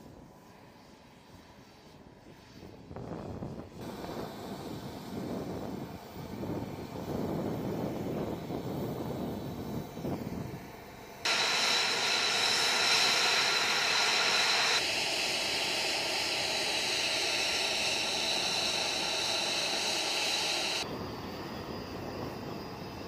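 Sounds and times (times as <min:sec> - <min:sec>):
jet engine whine: 0:00.0 - 0:23.0.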